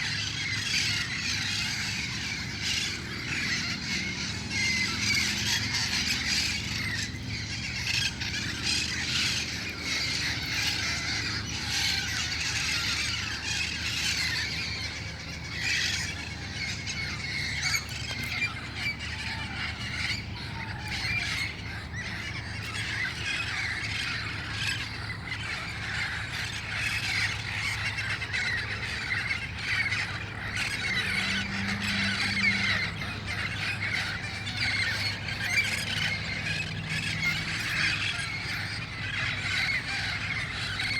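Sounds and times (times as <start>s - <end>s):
parrots squawking and screeching: 0.0s - 40.9s
steady low hum: 0.0s - 40.9s.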